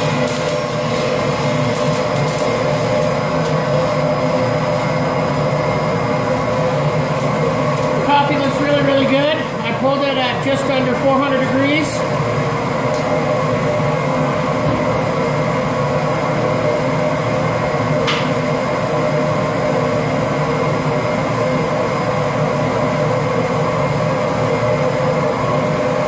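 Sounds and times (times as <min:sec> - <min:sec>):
coffee roaster mechanical whir: 0:00.0 - 0:26.0.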